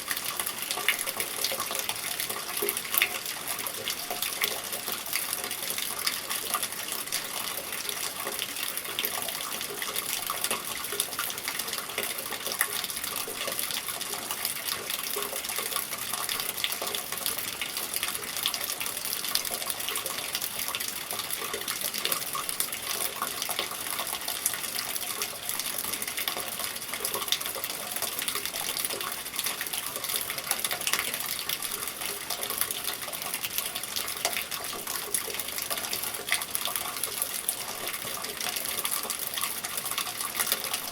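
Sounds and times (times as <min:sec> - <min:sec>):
steady rain patter: 0:00.0 - 0:40.9
water splashing from gutter: 0:00.0 - 0:40.9.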